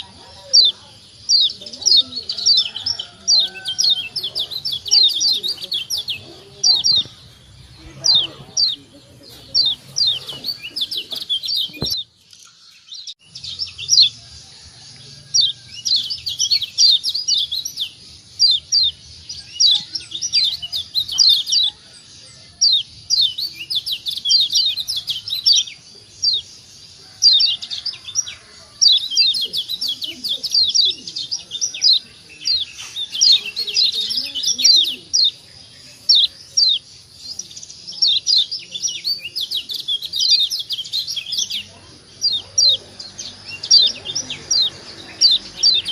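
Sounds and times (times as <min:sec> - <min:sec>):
bird giving high chirps: 0:00.0 - 0:12.1, 0:15.4 - 0:21.8, 0:22.5 - 0:45.9.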